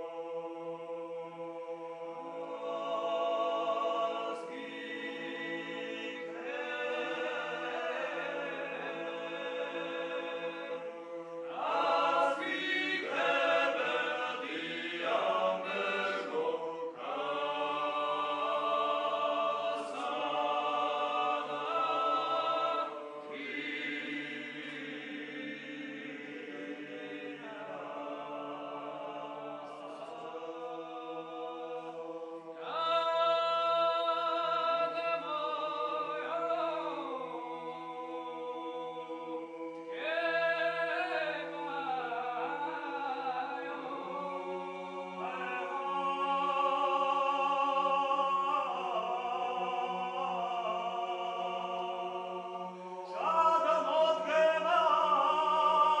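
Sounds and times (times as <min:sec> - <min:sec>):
male choir singing a cappella: 0:00.0 - 0:56.0.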